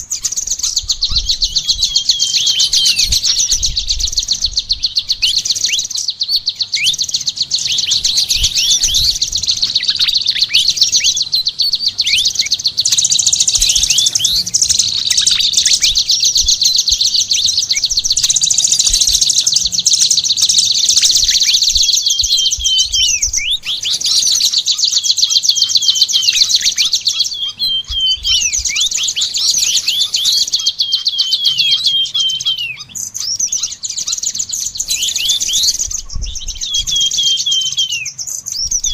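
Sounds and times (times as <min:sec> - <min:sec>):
songbird trilling: 0:00.0 - 0:38.9.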